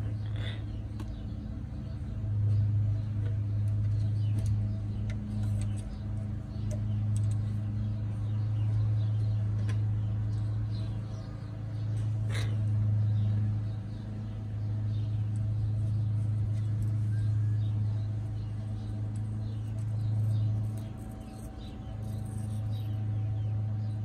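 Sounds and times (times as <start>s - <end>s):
birds chirping and squeaking: 0.0s - 24.0s
low motor hum: 0.0s - 24.0s.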